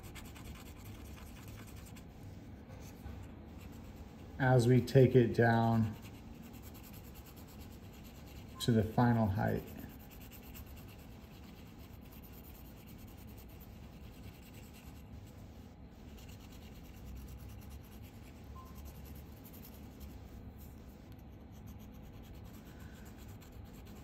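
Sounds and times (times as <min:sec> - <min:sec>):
scratching on abrasive paper: 0:00.0 - 0:02.3, 0:03.5 - 0:04.4, 0:05.0 - 0:24.0.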